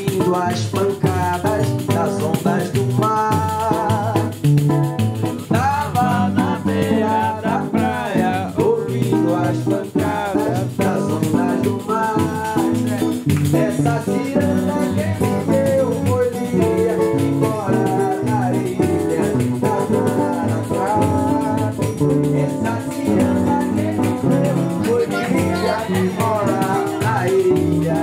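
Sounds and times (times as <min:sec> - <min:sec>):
acoustic guitar: 0:00.0 - 0:28.0
man singing: 0:00.0 - 0:28.0
shaken rattle: 0:00.0 - 0:28.0.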